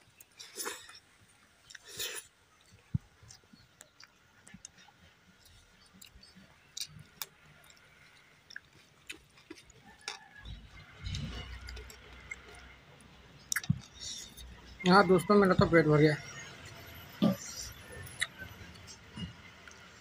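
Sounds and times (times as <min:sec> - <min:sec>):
chewing and mouth sounds: 0:00.2 - 0:12.8, 0:13.4 - 0:14.6, 0:16.7 - 0:19.9.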